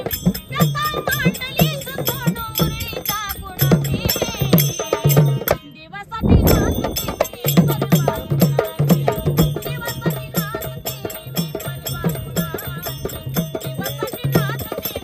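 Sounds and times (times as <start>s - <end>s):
woman singing folk song: 0.0s - 15.0s.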